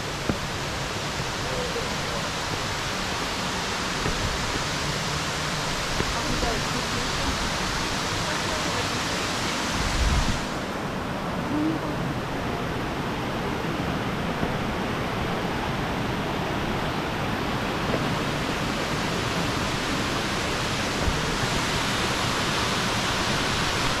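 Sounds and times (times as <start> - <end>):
stream cascades: 0.0 - 24.0
waterfall rushing: 0.0 - 24.0.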